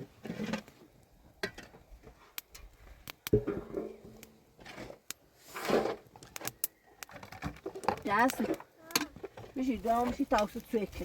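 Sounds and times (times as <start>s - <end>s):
objects clicking and knocking: 1.4s - 10.6s.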